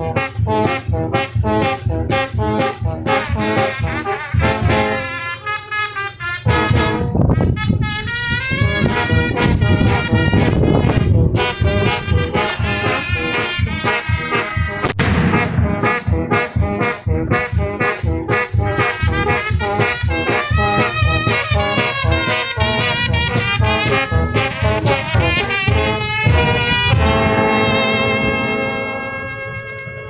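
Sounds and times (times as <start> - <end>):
steady drum beat: 0.0 - 28.6
brass band music: 0.0 - 30.0.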